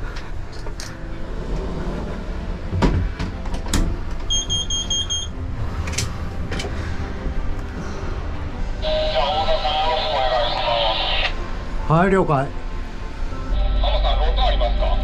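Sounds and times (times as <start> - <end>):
low machinery rumble: 0.0 - 12.0, 12.6 - 15.0.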